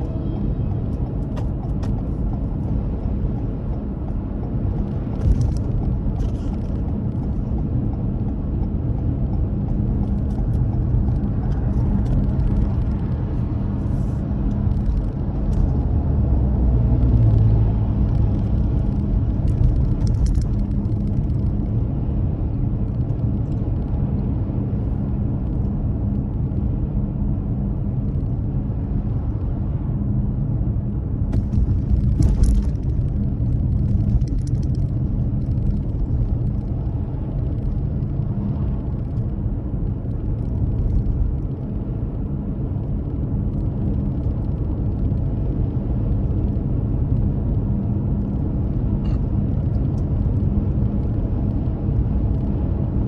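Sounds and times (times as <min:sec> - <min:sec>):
car driving rumble: 0:00.0 - 0:53.0.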